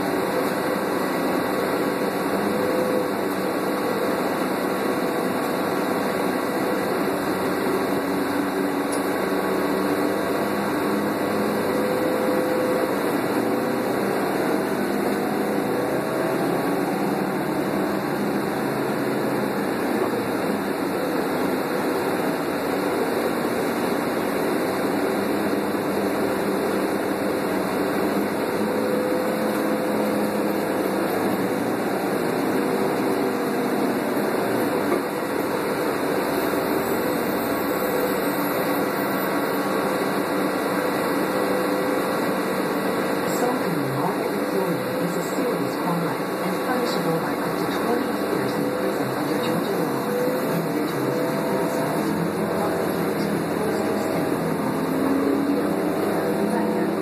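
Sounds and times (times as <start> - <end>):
bus cabin noise: 0.0 - 57.0
bus engine hum: 0.0 - 57.0.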